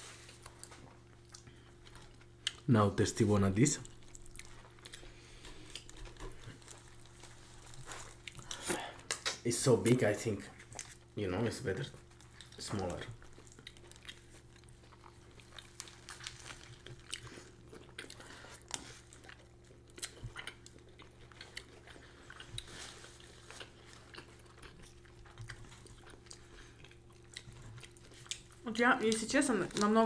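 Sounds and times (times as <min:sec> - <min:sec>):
faint low hum: 0:00.0 - 0:30.0
people chewing food: 0:00.0 - 0:30.0.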